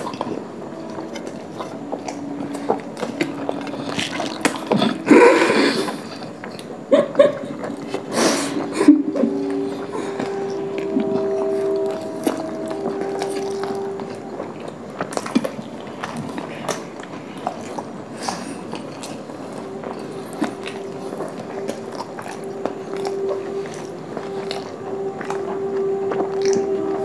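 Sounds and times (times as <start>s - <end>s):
faint background music: 0.0s - 27.0s
wet chewing with mouth clicks: 0.0s - 27.0s.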